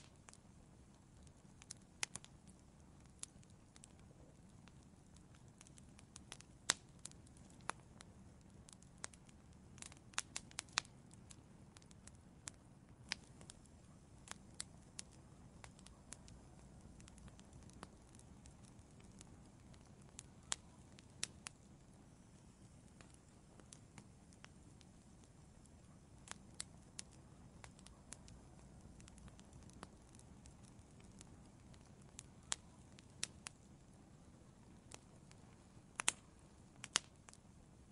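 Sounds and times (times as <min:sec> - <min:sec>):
faint hiss of burning: 0:00.0 - 0:37.9
wood fire crackling: 0:00.0 - 0:37.9.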